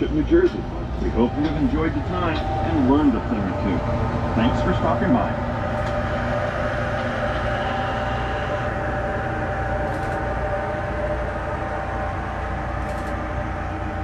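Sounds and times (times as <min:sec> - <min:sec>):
machinery hum: 0:00.0 - 0:14.0.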